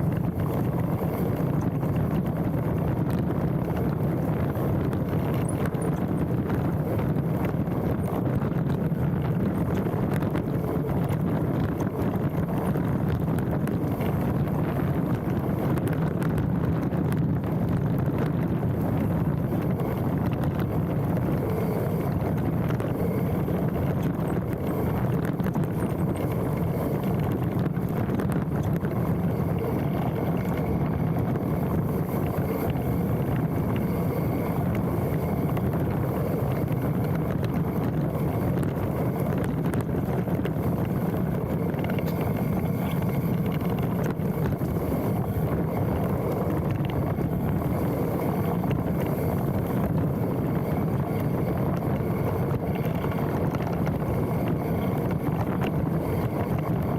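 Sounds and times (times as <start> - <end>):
bike tyres rumbling on dirt: 0.0 - 56.9
wind buffeting microphone: 0.0 - 56.9.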